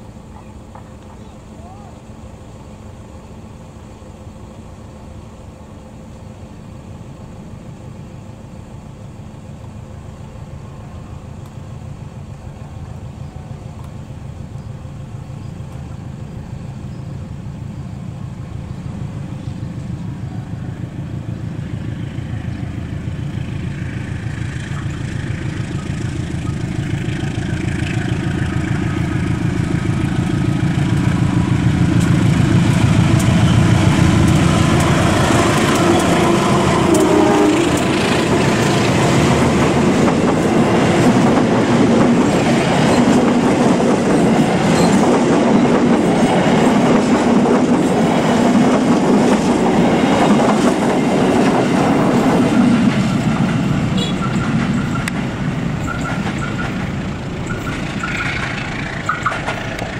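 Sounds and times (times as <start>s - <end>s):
locomotive engine rumbling: 0.0s - 59.9s
coach wheels rattling over rails: 11.8s - 59.9s.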